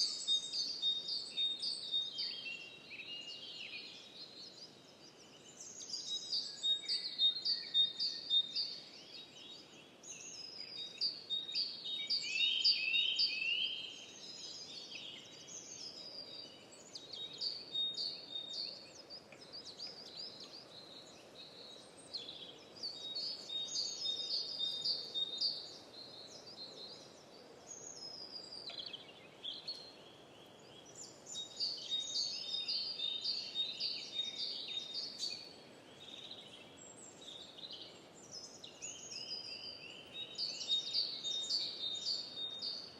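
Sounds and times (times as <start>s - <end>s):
faint background hiss: 0.0s - 42.9s
songbirds chirping: 0.0s - 42.9s.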